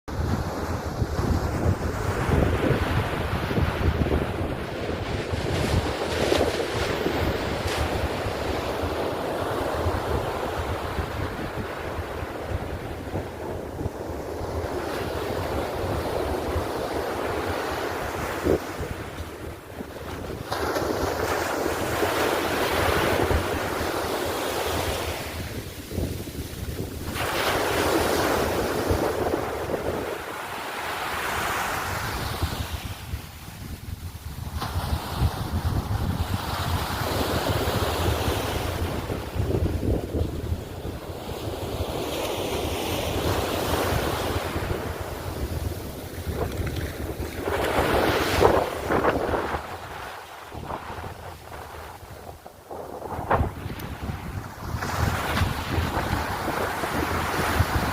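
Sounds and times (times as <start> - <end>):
ocean surf washing onto beach: 0.1 - 57.9
wind buffeting microphone: 0.1 - 57.9.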